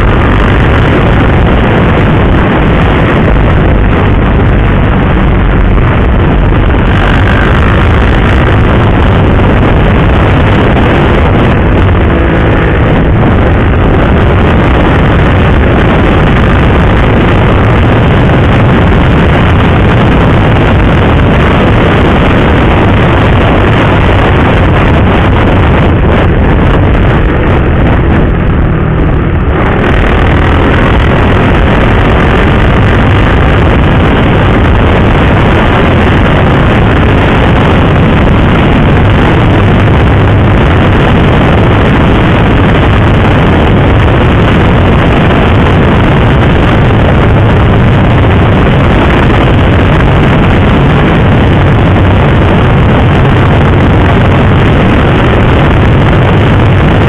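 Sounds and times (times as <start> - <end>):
motorcycle engine hum: 0.0 - 57.0
wind rush on microphone: 0.0 - 57.0.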